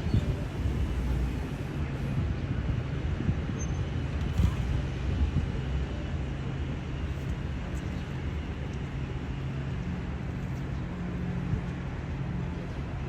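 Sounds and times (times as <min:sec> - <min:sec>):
road noise: 0:00.0 - 0:13.0
vehicle engines rumbling: 0:00.0 - 0:13.0.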